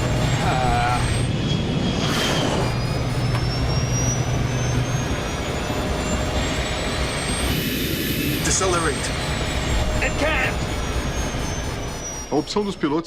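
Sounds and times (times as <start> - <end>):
jet engines roaring with whine: 0.0 - 13.0
low hum: 0.0 - 13.0.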